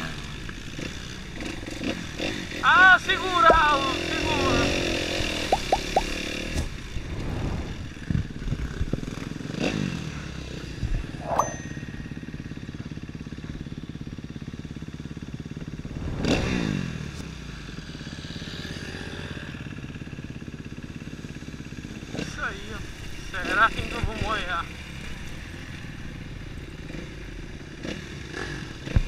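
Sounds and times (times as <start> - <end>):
motorcycle engines running: 0.0 - 29.0.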